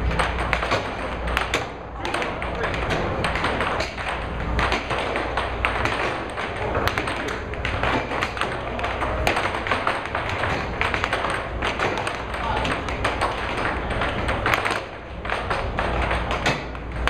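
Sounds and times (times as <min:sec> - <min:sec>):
air hockey puck clacking: 0:00.0 - 0:17.0
steady low hum: 0:00.0 - 0:17.0.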